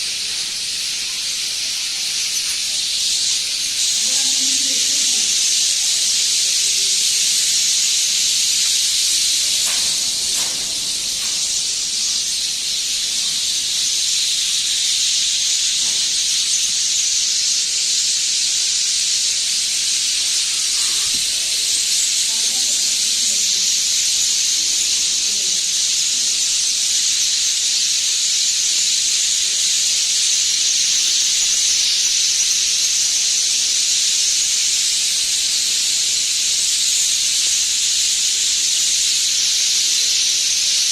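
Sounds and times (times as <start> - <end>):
large flock of birds chirping: 0.0 - 40.9.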